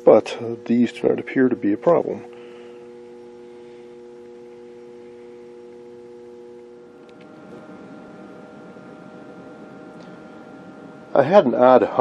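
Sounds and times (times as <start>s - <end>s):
electrical hum: 0.0s - 12.0s
high-pitched hum with hiss: 0.0s - 12.0s.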